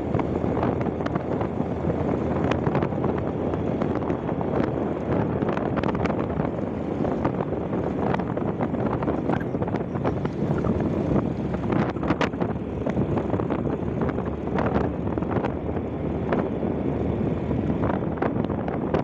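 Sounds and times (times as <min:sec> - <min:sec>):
motorcycle engine and tyres: 0:00.0 - 0:19.0
wind buffeting microphone: 0:00.0 - 0:19.0.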